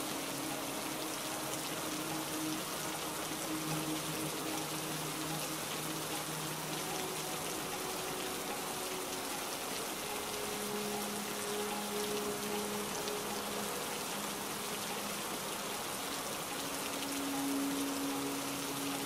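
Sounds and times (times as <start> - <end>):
heavy rain: 0.0 - 19.0
soft background music: 0.0 - 19.0.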